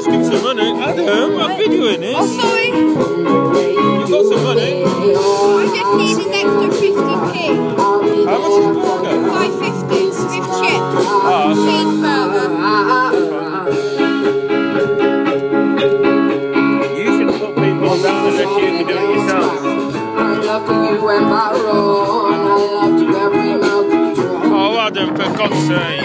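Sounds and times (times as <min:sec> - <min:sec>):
person singing: 0:00.0 - 0:14.1, 0:17.0 - 0:24.8
guitar chords: 0:00.0 - 0:26.0.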